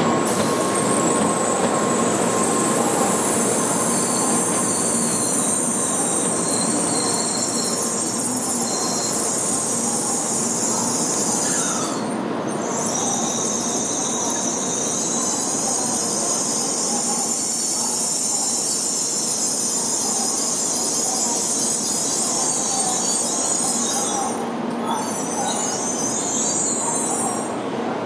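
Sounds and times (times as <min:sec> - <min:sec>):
high-pitched wheel squeal: 0:00.7 - 0:27.5.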